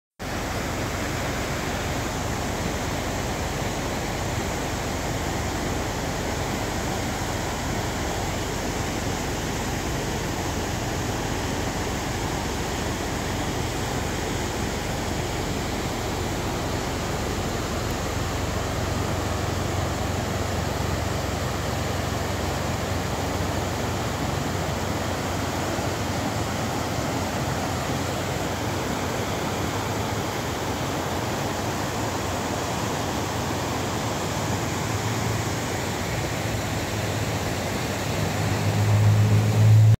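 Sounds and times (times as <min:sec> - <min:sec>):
water rushing over rocks: 0:00.2 - 0:39.9.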